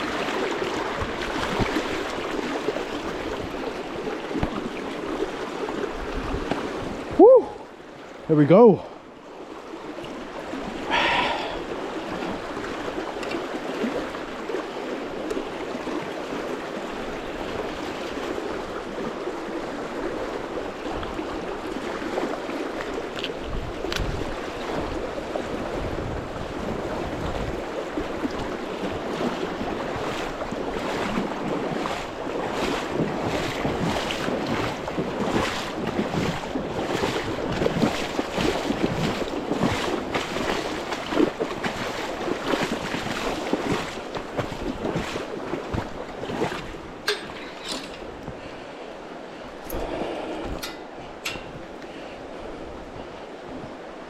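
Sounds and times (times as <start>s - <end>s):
fast river rushing: 0.0s - 54.0s.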